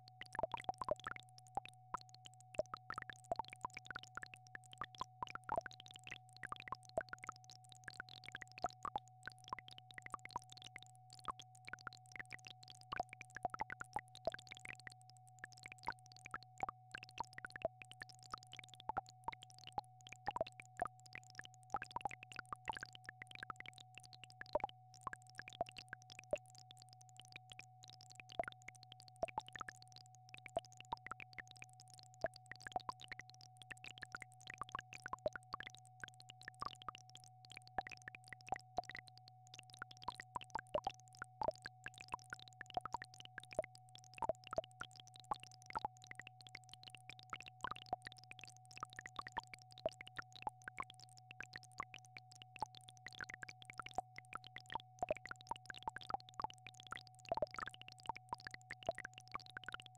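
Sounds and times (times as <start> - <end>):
soft clicks and pops: 0.1 - 59.9.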